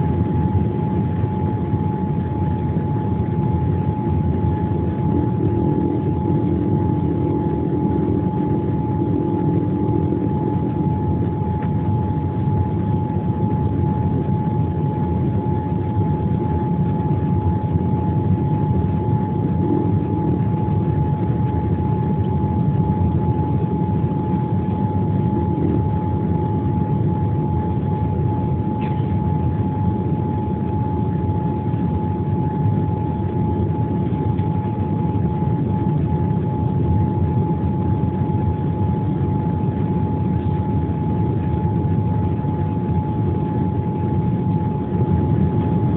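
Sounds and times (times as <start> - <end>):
constant whine: 0.0 - 45.9
jet engine rumble: 0.0 - 45.9.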